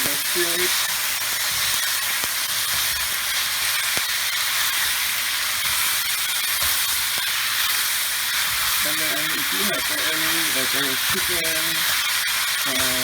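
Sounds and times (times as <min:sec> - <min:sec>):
noodles sizzling in oil: 0:00.0 - 0:13.0
stirring clicks: 0:00.0 - 0:13.0.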